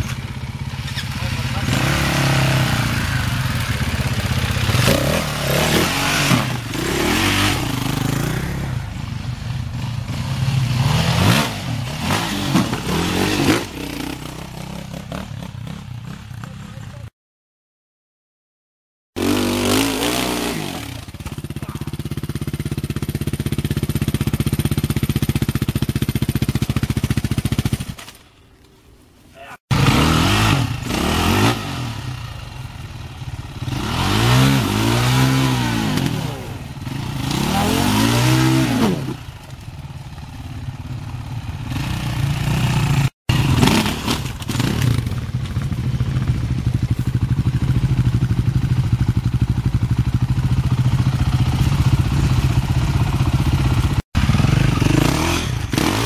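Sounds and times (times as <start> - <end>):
dirt bike engines revving: 0.0 - 17.1, 19.2 - 27.9, 29.4 - 56.0.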